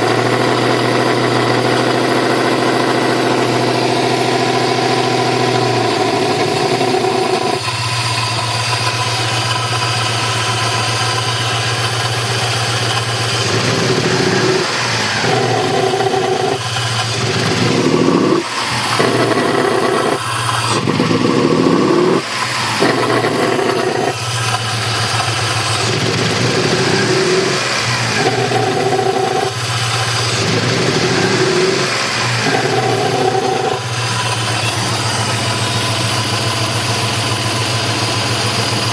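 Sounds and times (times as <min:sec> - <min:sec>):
car engine with throaty exhaust: 0:00.0 - 0:38.9.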